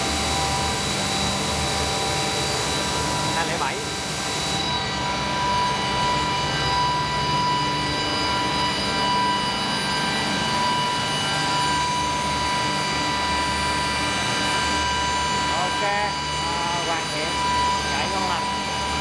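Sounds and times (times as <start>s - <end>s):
electric machine humming: 0.0s - 19.0s
high steady whine: 0.0s - 19.0s.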